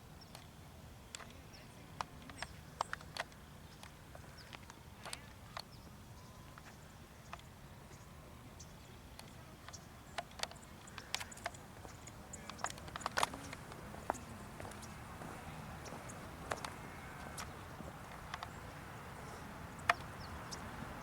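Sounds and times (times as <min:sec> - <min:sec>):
faint background noise: 0:00.0 - 0:21.0.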